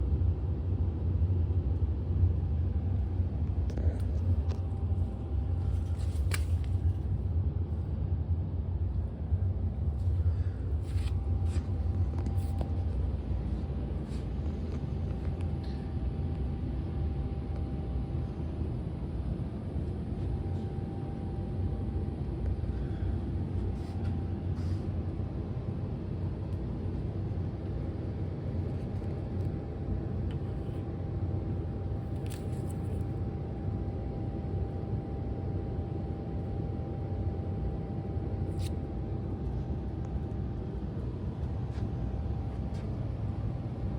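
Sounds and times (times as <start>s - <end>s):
faint steady hum: 0.0s - 43.9s
water heater low rumble: 0.0s - 43.9s.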